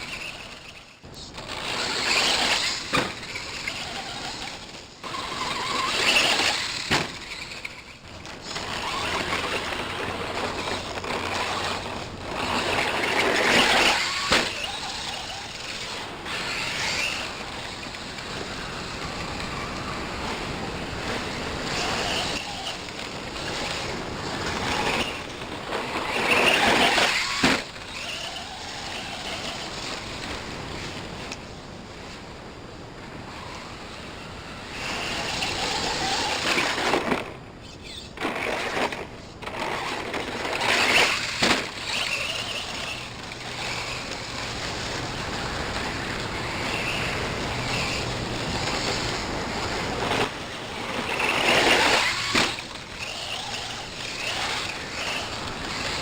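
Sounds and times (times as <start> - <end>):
rc car motor and tyres: 0.0 - 56.0.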